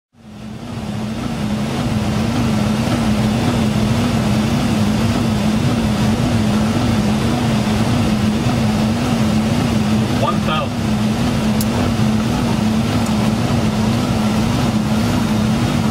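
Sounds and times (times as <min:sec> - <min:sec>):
low wavering hum: 0:00.2 - 0:15.9
rush of air in aircraft cabin: 0:00.2 - 0:15.9.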